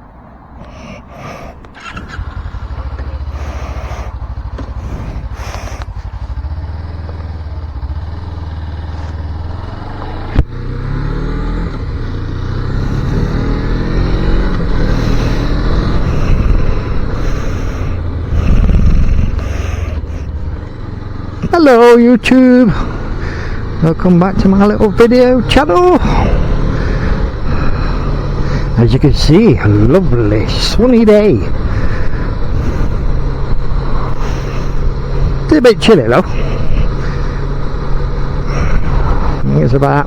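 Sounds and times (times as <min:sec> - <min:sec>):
motorcycle engine revving: 0:00.6 - 0:40.0.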